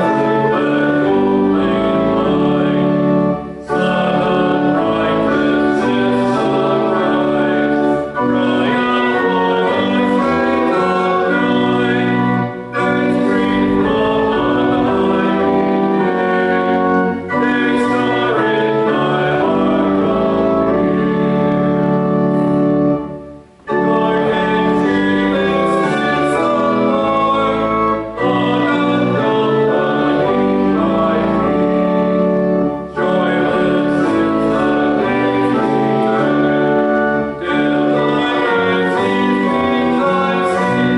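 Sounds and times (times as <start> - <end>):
church organ chords: 0.0 - 40.9.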